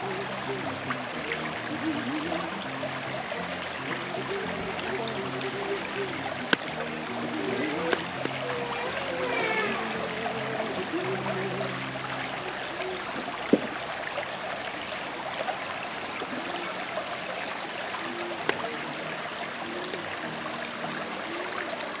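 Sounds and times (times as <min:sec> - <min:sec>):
creek water running over gravel: 0:00.0 - 0:22.0.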